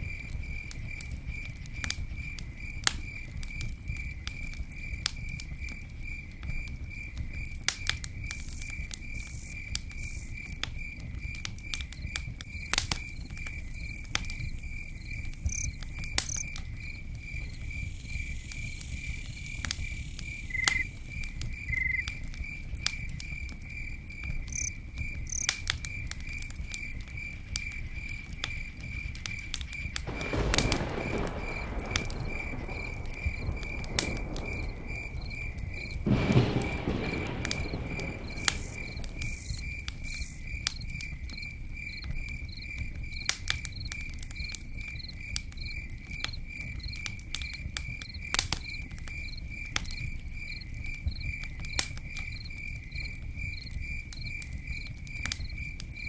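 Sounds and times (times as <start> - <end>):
campfire crackling and popping: 0.0 - 56.0
insect chirping: 0.0 - 56.0.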